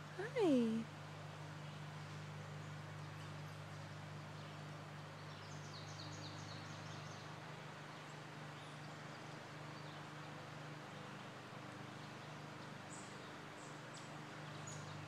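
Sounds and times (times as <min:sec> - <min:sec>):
low hum and hiss: 0:00.0 - 0:15.0
songbird chirping: 0:01.6 - 0:15.0.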